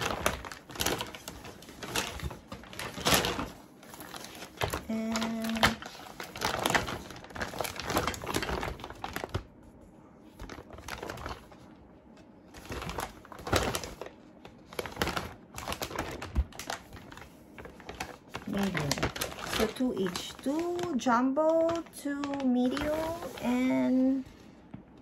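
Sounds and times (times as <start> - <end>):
plastic bags crinkling: 0.0 - 9.6, 10.3 - 11.8, 12.4 - 24.2.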